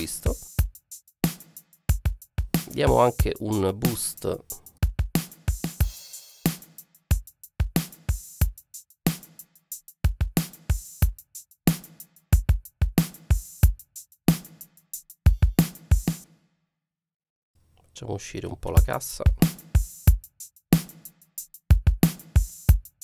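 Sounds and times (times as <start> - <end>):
drum groove: 0.0 - 16.3, 18.7 - 23.0.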